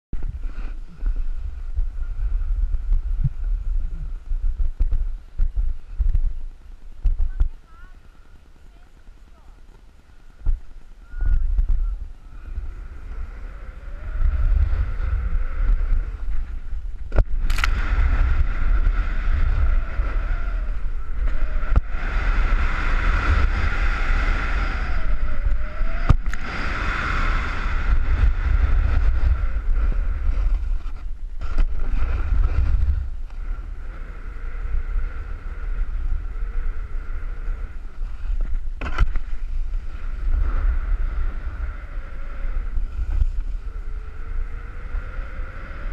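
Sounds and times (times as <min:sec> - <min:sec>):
wind buffeting microphone: 0:00.1 - 0:45.9
snowboard scraping over snow: 0:00.2 - 0:45.9.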